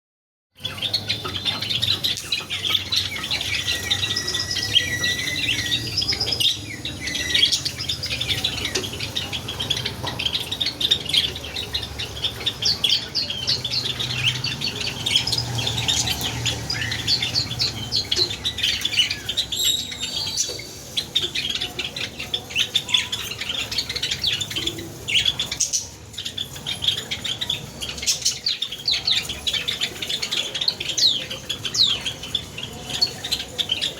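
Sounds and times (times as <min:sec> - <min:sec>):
sparrows chirping: 0:00.6 - 0:33.9.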